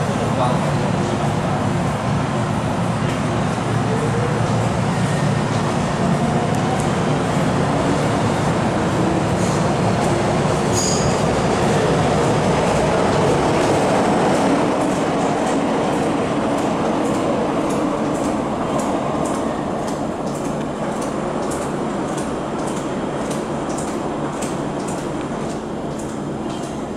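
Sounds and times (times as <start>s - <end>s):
train rumble and motor whine: 0.0s - 26.9s.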